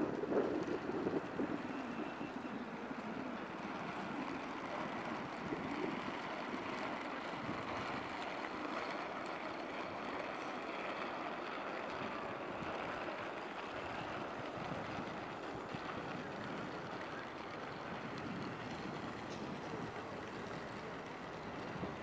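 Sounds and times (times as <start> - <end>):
city ambience: 0.0 - 22.0.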